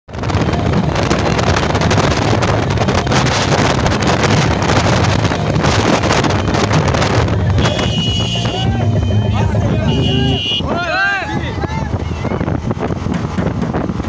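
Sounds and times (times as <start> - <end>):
motorcycle engines running: 0.1 - 14.0
wind buffeting microphone: 0.1 - 14.0.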